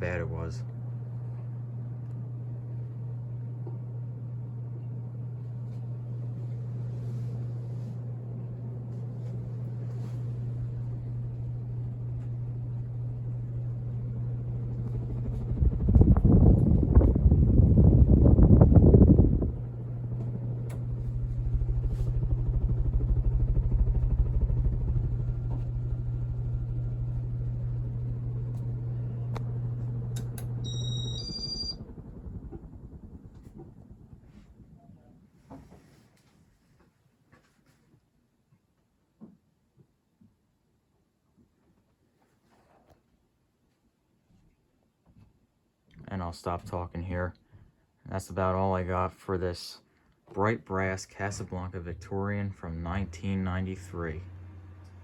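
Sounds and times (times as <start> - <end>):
ceiling fan running: 0.0 - 37.8, 46.0 - 55.0.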